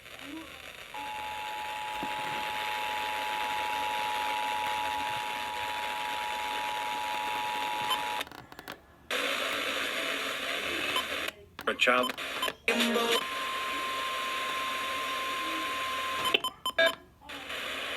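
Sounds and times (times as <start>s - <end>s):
radio hiss: 0.0s - 8.2s, 9.1s - 16.3s, 17.3s - 17.9s.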